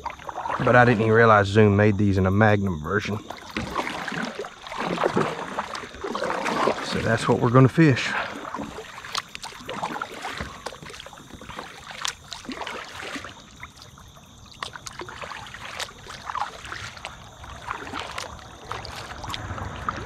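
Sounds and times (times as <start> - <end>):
paddle stroking through water: 0.0 - 20.0
water splashes and drips: 0.0 - 20.0.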